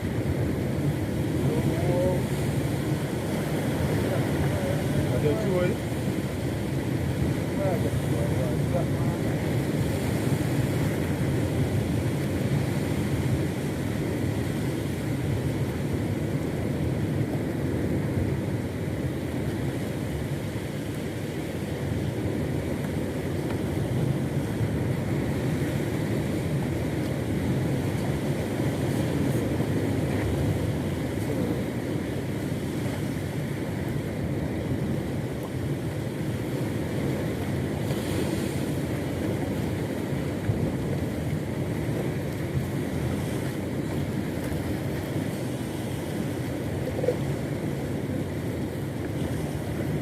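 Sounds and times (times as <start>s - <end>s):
boat engine droning: 0.0s - 50.0s
water noise: 0.0s - 50.0s
wind: 0.0s - 50.0s.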